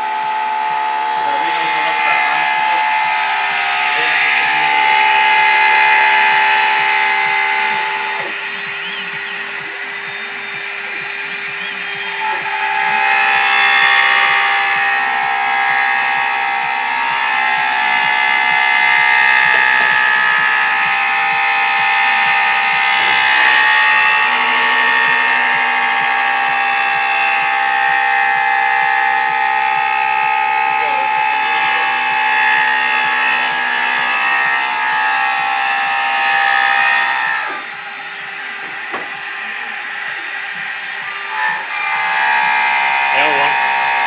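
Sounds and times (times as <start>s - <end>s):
machine motors whining: 0.0s - 44.0s.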